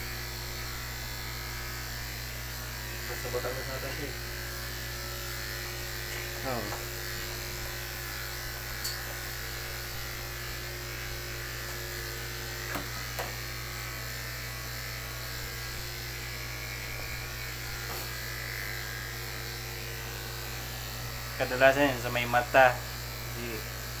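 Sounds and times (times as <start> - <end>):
electric clippers buzzing: 0.0 - 24.0.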